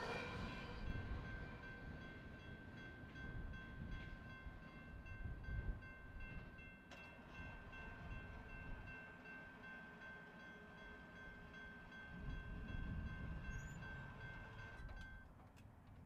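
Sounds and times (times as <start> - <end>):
railroad crossing bell ringing: 0.0 - 15.3.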